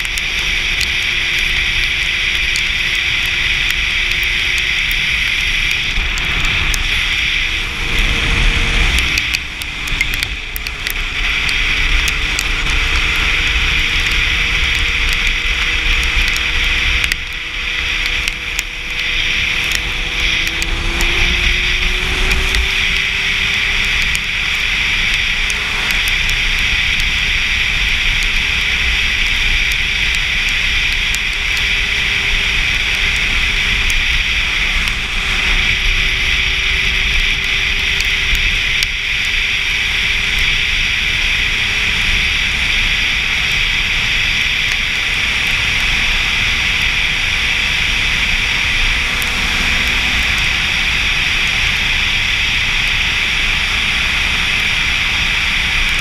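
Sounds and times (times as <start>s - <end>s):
light crackles: 0.0s - 53.4s
motorcycle engine: 0.0s - 56.0s
road hiss: 0.0s - 56.0s
wind rush: 0.0s - 56.0s.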